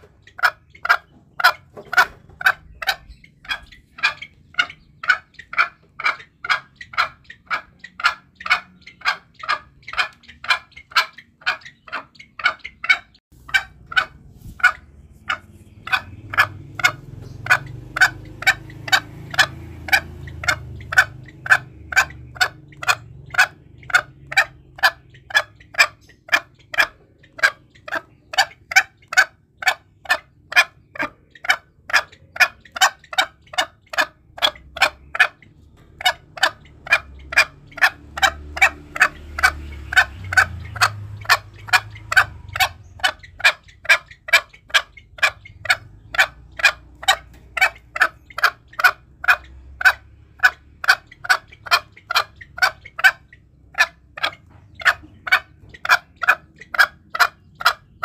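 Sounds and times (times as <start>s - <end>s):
junglefowl clucking: 0.0s - 58.0s.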